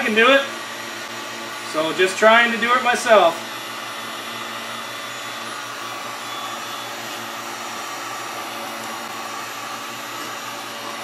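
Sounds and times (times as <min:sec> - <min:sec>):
heat gun fan blowing: 0:00.0 - 0:11.0.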